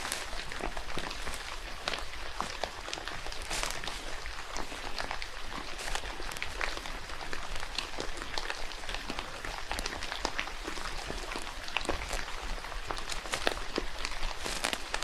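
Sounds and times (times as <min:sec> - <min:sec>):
rain falling: 0:00.0 - 0:15.0
raindrops tapping: 0:00.0 - 0:15.0.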